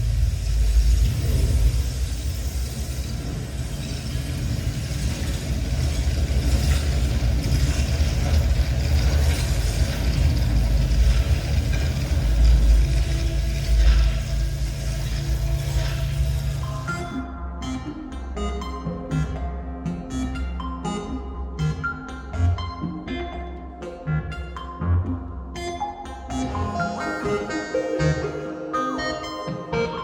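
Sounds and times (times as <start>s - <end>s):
synthesizer bass drone: 0.0s - 30.0s.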